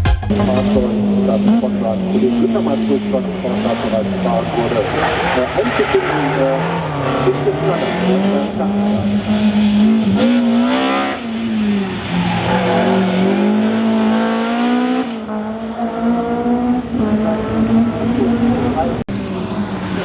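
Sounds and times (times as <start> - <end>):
rally car engine revving: 0.3 - 20.0.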